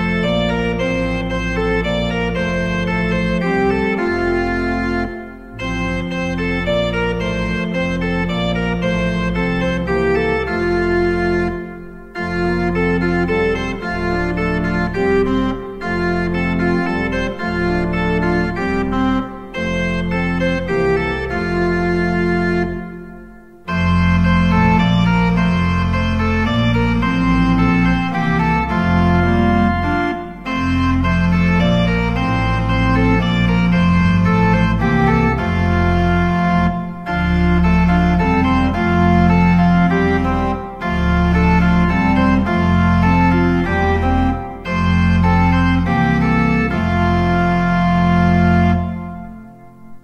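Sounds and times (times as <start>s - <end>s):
organ playing slow chords: 0.0s - 50.0s.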